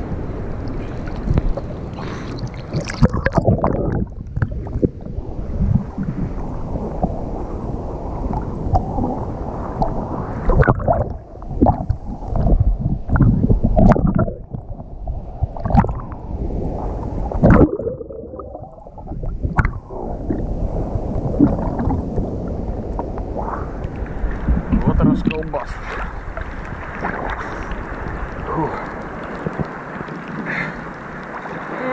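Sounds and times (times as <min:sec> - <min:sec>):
rough sea water splashing: 0:00.0 - 0:31.9.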